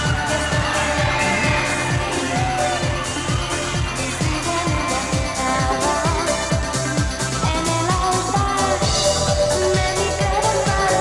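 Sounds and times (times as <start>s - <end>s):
synths: 0.0s - 11.0s.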